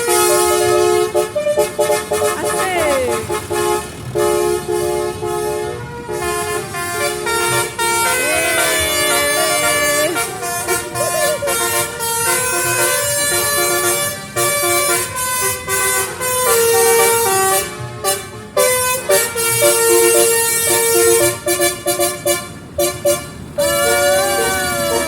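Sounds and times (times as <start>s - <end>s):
musical horn playing a tune: 0.0s - 25.0s.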